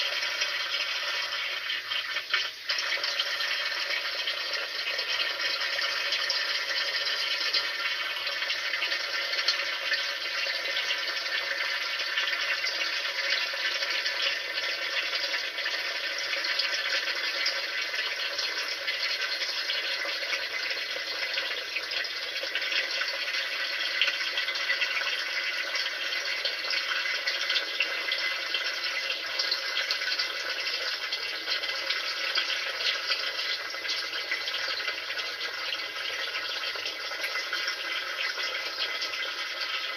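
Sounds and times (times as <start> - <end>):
water running: 0.0 - 39.9.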